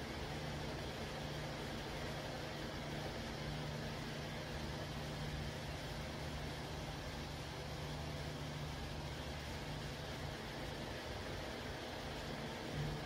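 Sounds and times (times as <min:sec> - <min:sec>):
steady hum with hiss: 0:00.0 - 0:13.0.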